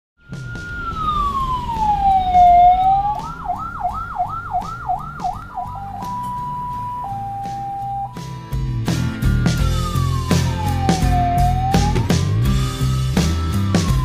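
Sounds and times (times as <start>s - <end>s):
electronic ambulance siren: 0.3s - 8.2s, 9.2s - 14.0s.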